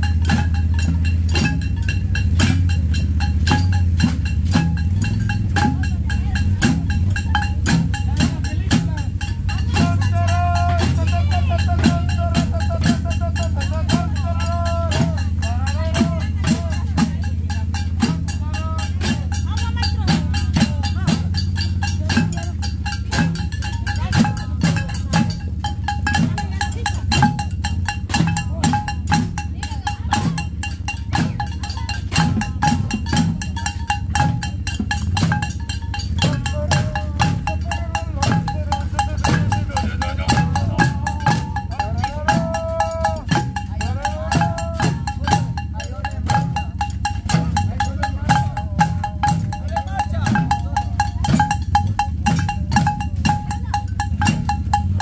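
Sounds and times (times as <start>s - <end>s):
tin cans and jugs beaten with sticks: 0.0s - 55.0s.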